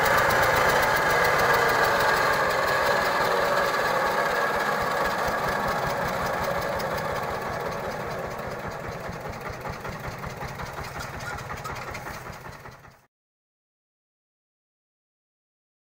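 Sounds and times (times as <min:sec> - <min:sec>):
machinery whirring: 0:00.0 - 0:13.0
diesel engine beat: 0:00.0 - 0:13.1.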